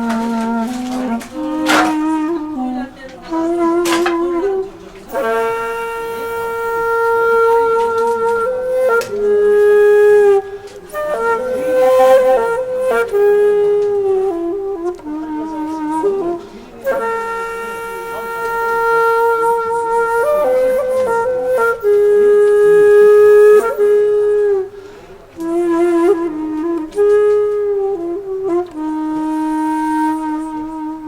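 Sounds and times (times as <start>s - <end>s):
solo flute slow melody: 0.0s - 31.0s.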